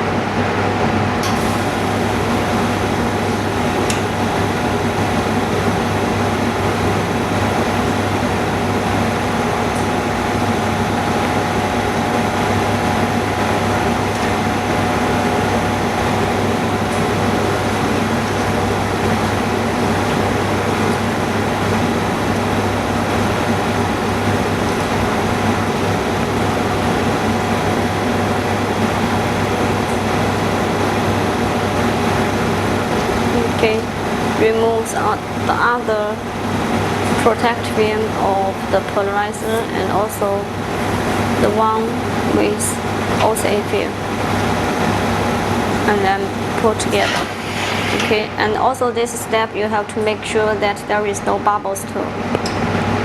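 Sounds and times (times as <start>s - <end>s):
machine humming: 0.0s - 50.2s.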